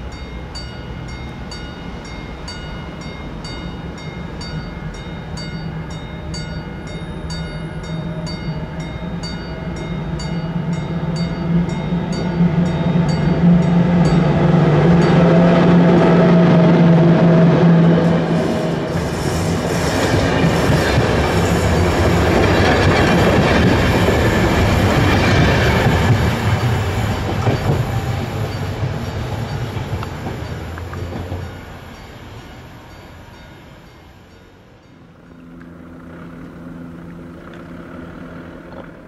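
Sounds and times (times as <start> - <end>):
train coaches clattering on rails: 0.0 - 35.0
electric locomotive humming: 0.0 - 39.0.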